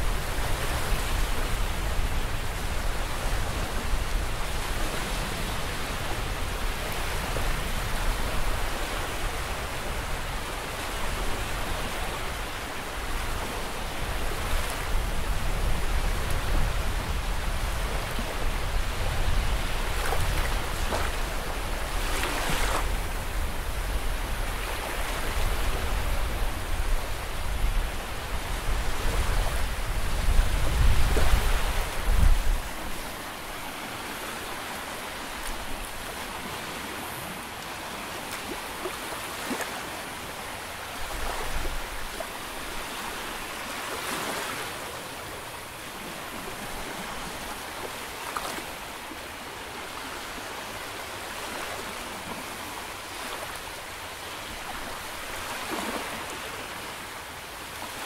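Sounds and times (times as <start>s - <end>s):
small waves washing onto shore: 0.0s - 58.0s.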